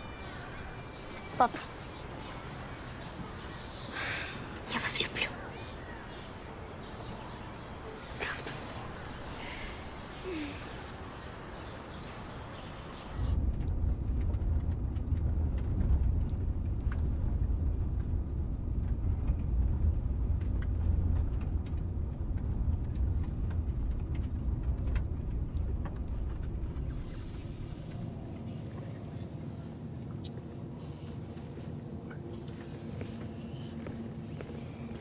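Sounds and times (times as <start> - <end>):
bus rumble from inside: 0.0 - 35.0.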